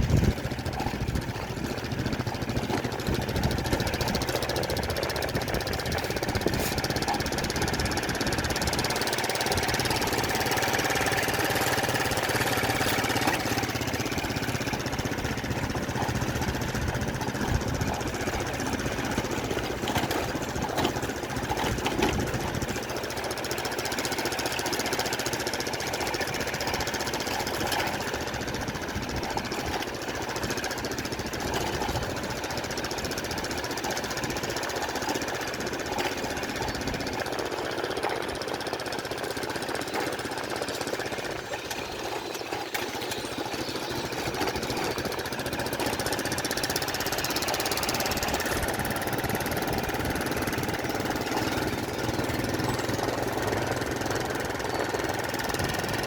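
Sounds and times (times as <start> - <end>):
small engine knocking: 0.0 - 56.0.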